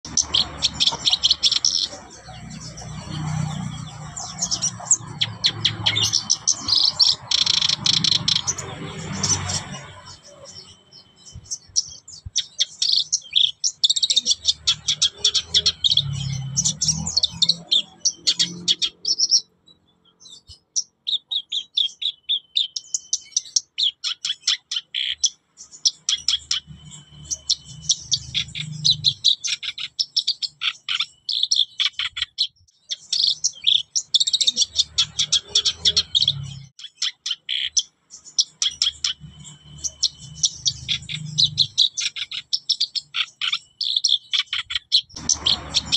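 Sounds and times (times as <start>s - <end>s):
bird chattering song: 0.0s - 45.9s.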